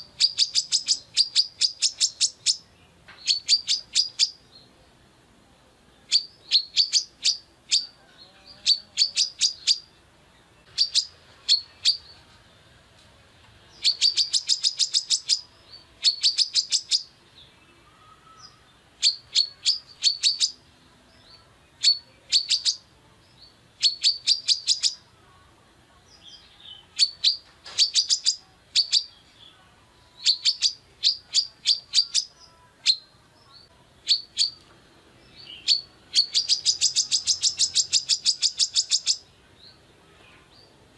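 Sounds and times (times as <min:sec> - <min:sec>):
sunbird high sharp chirps: 0:00.0 - 0:04.7, 0:06.0 - 0:10.0, 0:10.6 - 0:12.2, 0:13.7 - 0:25.1, 0:26.1 - 0:39.8.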